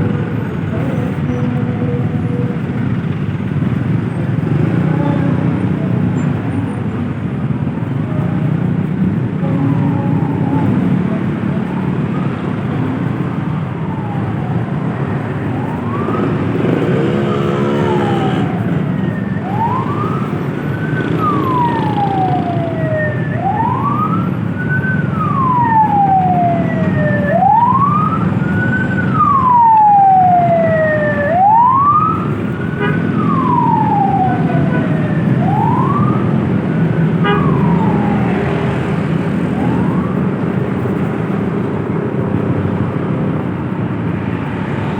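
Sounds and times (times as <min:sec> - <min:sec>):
siren wailing: 0:00.0 - 0:43.4
vehicle and road noise: 0:00.0 - 0:44.9.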